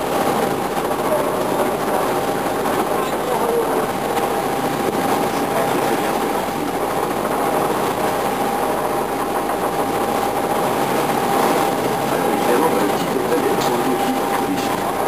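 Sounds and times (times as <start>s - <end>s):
motorboat engine running: 0.0s - 15.0s
steady whine: 0.0s - 15.0s
water rushing past hull: 0.0s - 15.0s.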